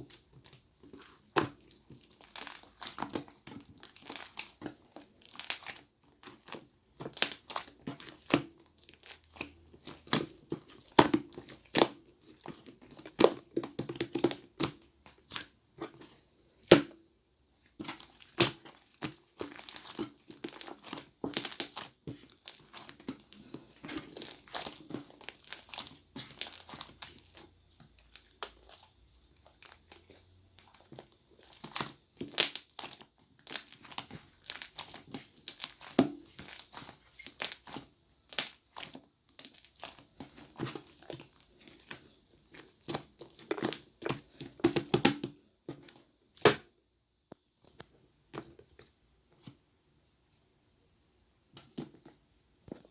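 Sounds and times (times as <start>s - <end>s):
slime squished by hand: 0.0s - 17.0s, 17.8s - 46.7s.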